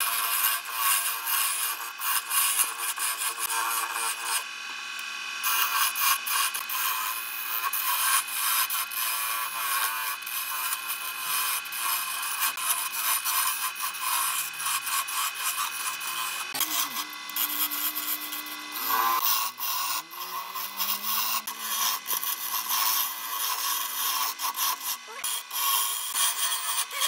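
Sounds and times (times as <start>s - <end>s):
lathe chisel scraping wood: 0.0s - 4.5s, 5.5s - 27.0s.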